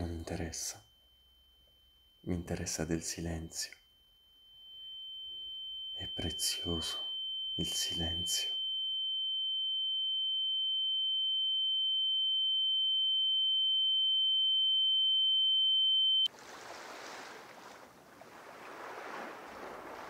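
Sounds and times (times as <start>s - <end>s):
high-pitched sine tone: 0.0s - 16.3s.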